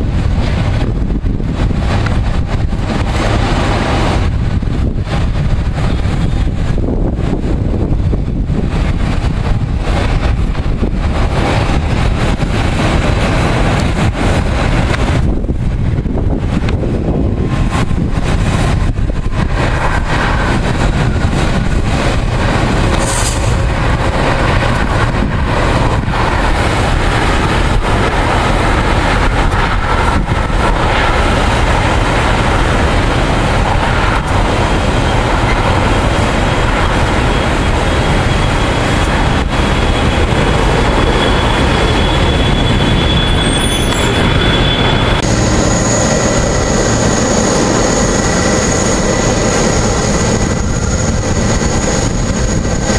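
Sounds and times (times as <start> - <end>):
jet engine whine: 0.0 - 52.9
jet landing rumble: 0.0 - 52.9.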